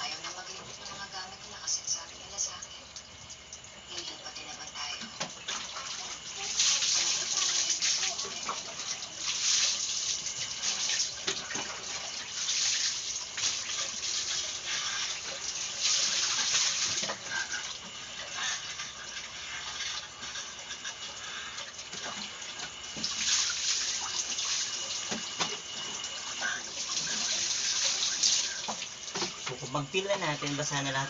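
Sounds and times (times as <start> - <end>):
water pouring and splashing: 4.8 - 31.0.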